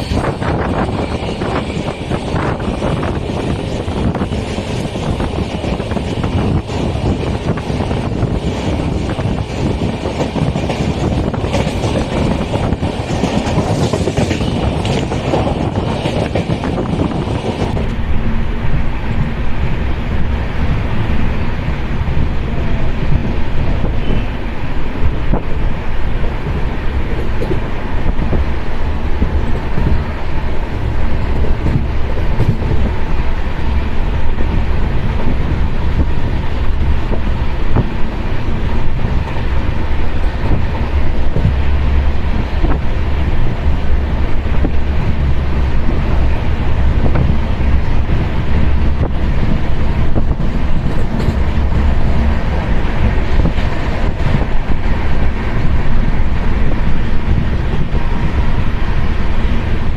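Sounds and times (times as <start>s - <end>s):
passenger train rumbling past: 0.0s - 59.9s.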